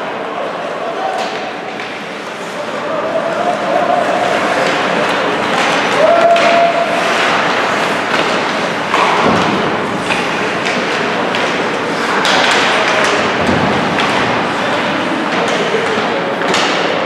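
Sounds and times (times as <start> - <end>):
arena crowd noise: 0.0 - 17.0.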